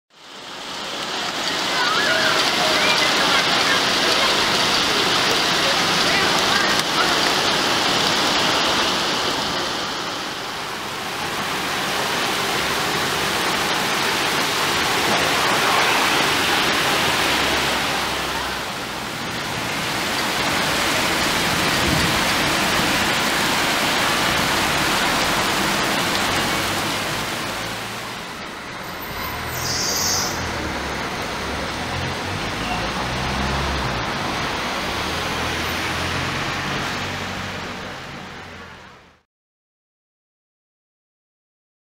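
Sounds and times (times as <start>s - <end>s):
heavy rain pouring: 0.1s - 39.2s
water running on road: 0.1s - 39.2s.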